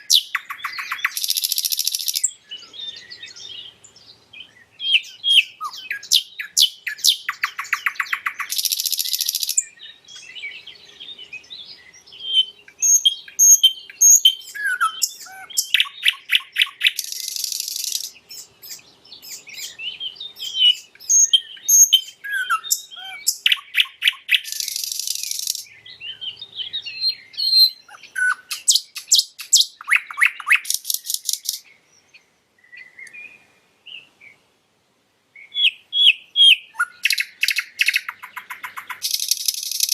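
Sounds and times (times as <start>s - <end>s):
nightingale singing: 0.0s - 34.5s, 35.3s - 39.9s.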